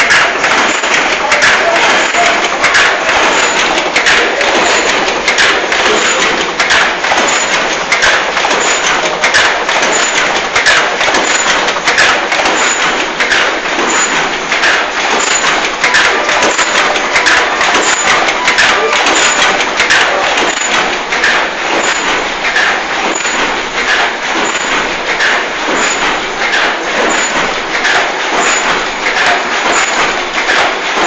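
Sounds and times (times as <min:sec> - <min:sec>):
packaging machine clattering: 0:00.0 - 0:31.0.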